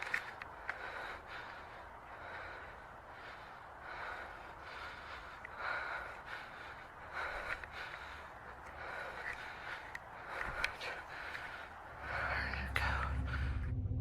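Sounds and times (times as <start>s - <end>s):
faint breathing: 0.0s - 13.8s.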